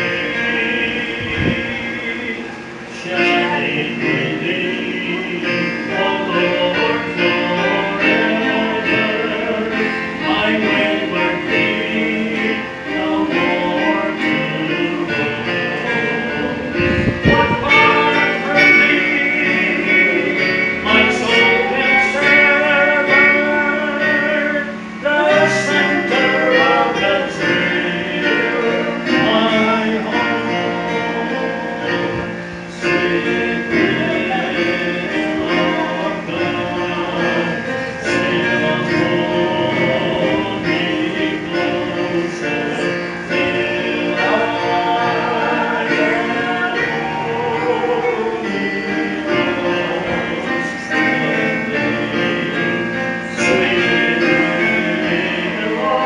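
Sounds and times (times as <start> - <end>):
keyboard accompaniment: 0.0 - 56.0
man and woman singing a hymn: 0.0 - 56.0.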